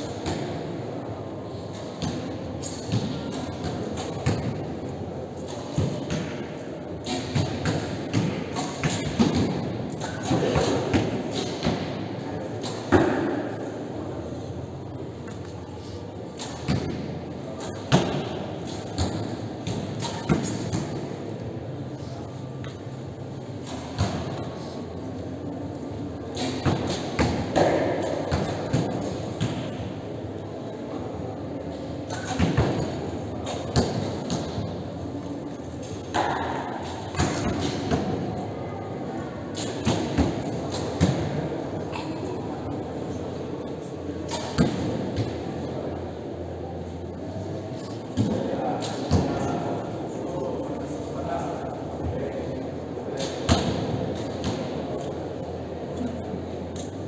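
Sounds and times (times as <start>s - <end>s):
large hall background noise: 0.0s - 57.0s.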